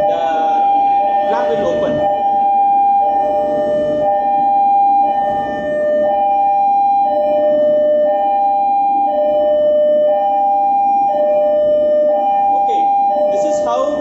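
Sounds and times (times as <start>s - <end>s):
two-tone hi-lo alarm: 0.0s - 14.0s.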